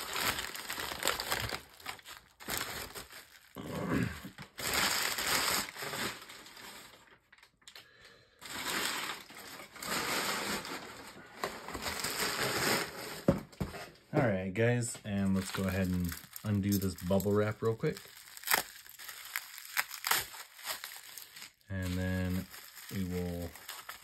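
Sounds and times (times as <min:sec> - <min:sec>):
plastic wrapping crinkling: 0:00.0 - 0:03.6, 0:04.3 - 0:07.8, 0:08.4 - 0:13.1, 0:15.0 - 0:24.0.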